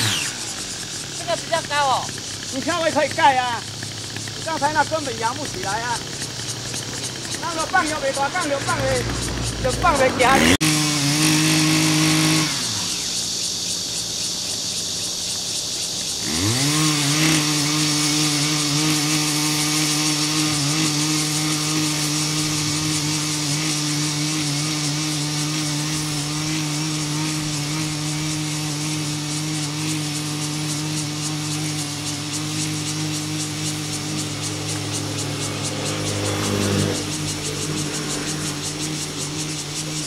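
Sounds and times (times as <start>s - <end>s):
power tiller engine buzzing: 0.0s - 40.0s.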